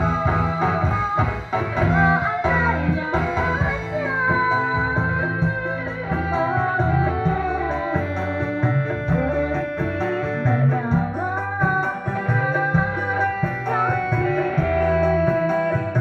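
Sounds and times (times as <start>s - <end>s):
electronic keyboard melody: 0.0s - 16.0s
guitar: 0.0s - 16.0s
hand drum and bass rhythm: 0.0s - 16.0s.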